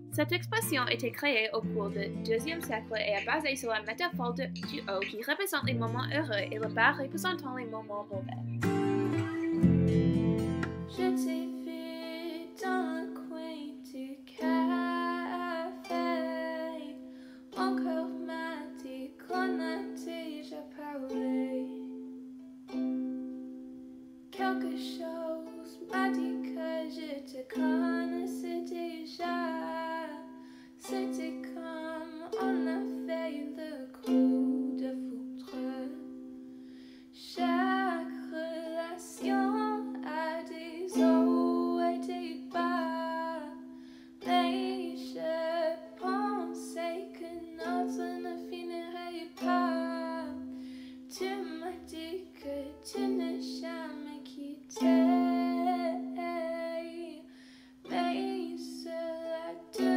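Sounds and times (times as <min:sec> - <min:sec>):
ukulele plucked chords: 0:00.0 - 0:59.9.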